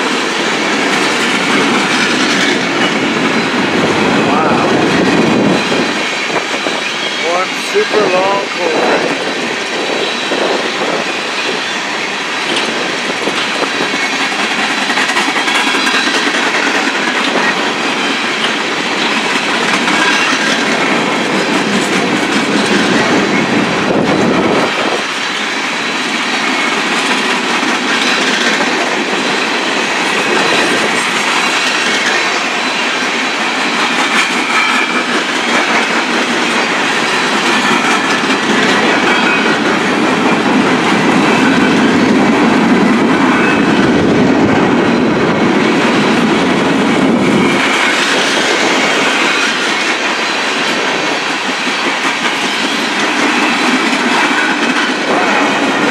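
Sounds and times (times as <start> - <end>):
train wheels clattering on rail joints: 0.0 - 55.9.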